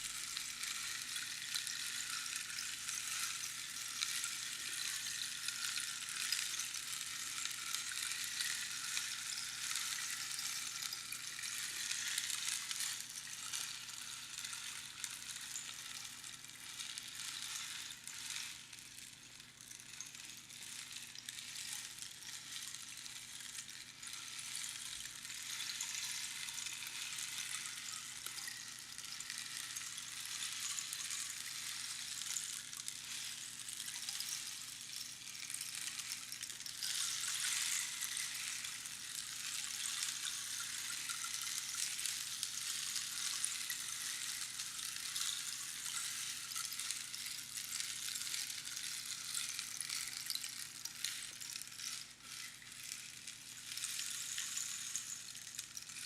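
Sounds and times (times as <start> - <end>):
rainstick pattering: 0.0 - 56.0.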